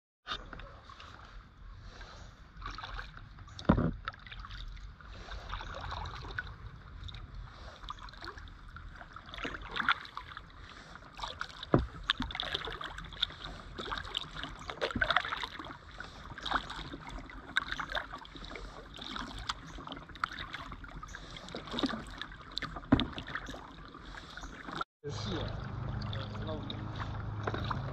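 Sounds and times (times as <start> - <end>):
paddle splashing through water: 0.3 - 27.9.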